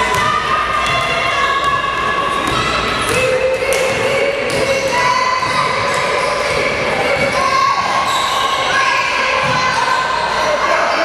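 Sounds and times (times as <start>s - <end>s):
people shouting in echoing hall: 0.0s - 11.0s.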